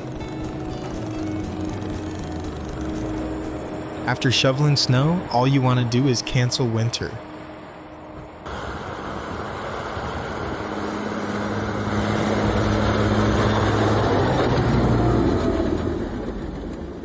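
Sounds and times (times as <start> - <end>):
heavy rushing noise: 0.0 - 16.2
vehicle engine running: 0.0 - 17.0.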